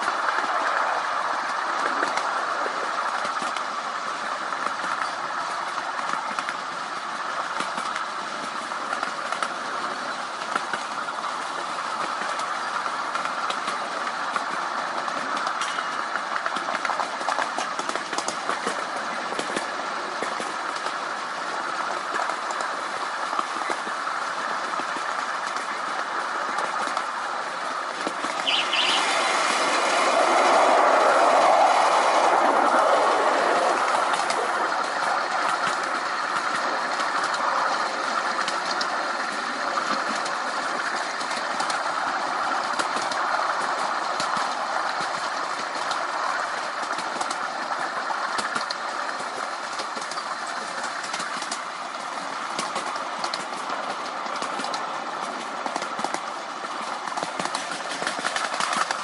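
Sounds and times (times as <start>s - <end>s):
miniature train wheels rumbling on rails: 0.0s - 59.0s.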